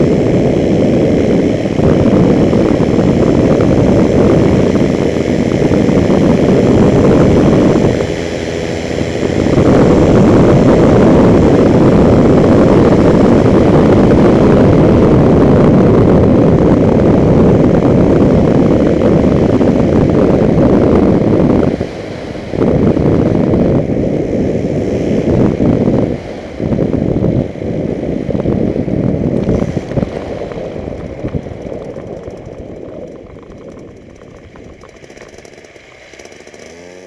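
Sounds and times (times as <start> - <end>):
aircraft engine and propeller: 0.0 - 37.0
wind rushing over microphone: 0.0 - 37.0.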